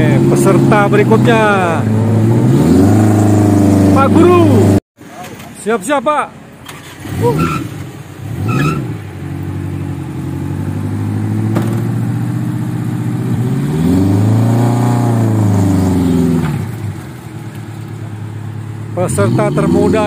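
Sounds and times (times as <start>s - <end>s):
engine revving: 0.0s - 4.8s, 6.6s - 17.1s, 18.8s - 20.0s.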